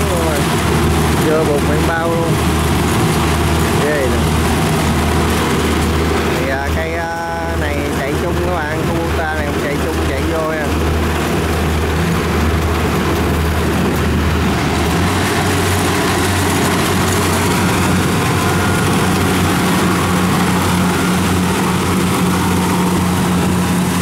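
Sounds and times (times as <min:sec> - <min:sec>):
diesel engine hum: 0:00.0 - 0:24.0
threshing machinery clatter: 0:00.0 - 0:24.0.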